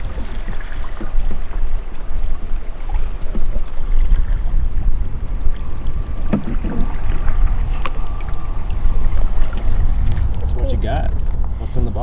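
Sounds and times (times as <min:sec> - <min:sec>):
water around hull: 0:00.0 - 0:12.0
wind rumbling on microphone: 0:00.0 - 0:12.0.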